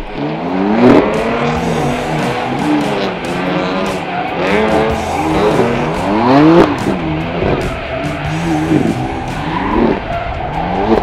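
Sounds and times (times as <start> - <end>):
car engine revving: 0.0 - 11.0
tyres squealing: 1.2 - 11.0.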